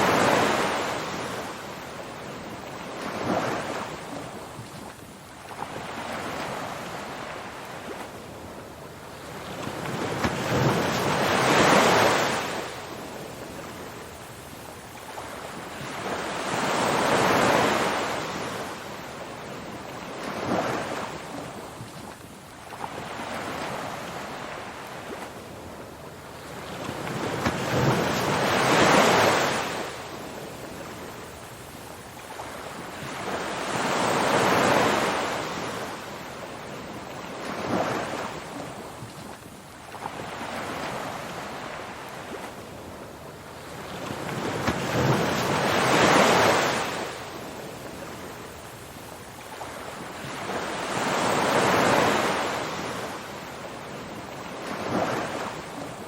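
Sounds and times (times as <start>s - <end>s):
ocean waves washing in: 0.0s - 56.0s.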